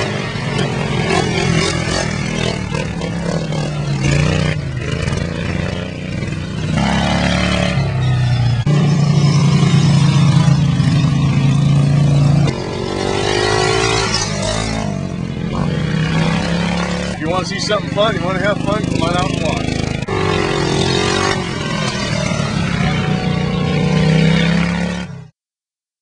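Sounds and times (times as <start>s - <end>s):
racing lawnmower engines revving: 0.0s - 25.3s.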